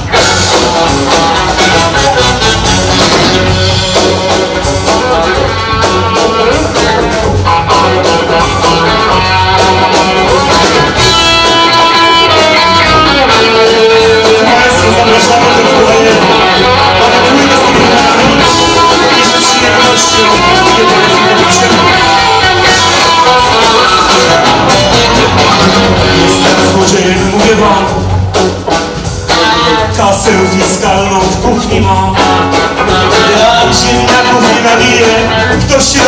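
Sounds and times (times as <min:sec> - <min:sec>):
blues-rock band playing: 0:00.0 - 0:36.0
drums: 0:00.0 - 0:36.0
electric guitar lead: 0:00.0 - 0:36.0.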